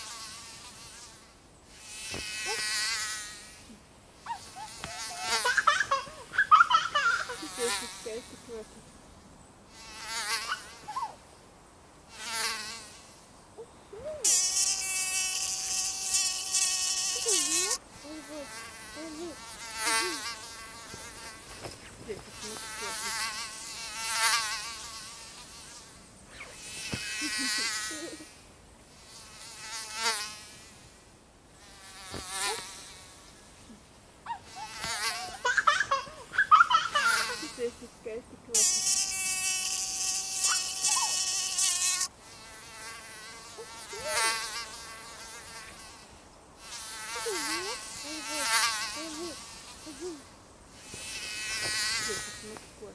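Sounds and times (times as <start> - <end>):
mosquito buzzing: 0.0 - 8.7, 9.7 - 11.2, 12.1 - 13.3, 14.2 - 31.0, 31.6 - 37.9, 38.5 - 52.9.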